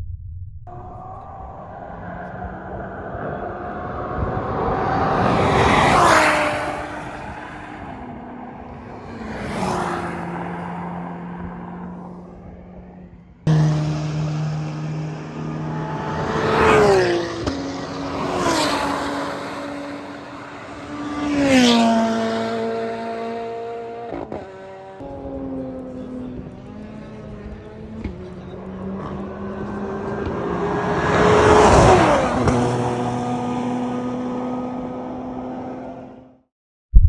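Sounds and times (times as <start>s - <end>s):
race cars passing by: 0.9s - 36.4s.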